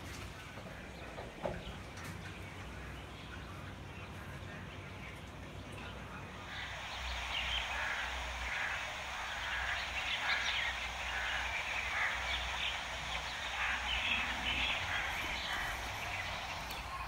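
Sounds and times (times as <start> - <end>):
birds calling: 0.0 - 17.0
low steady hum: 0.0 - 17.0.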